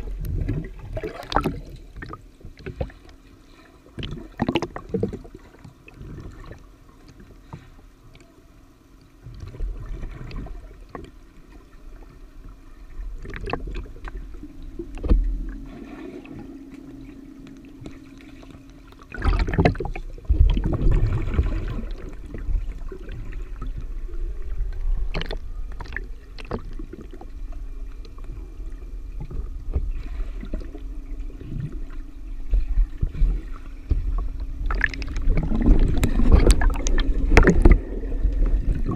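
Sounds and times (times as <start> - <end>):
muffled underwater sloshing: 0.0 - 38.9
steady low hum: 0.0 - 38.9.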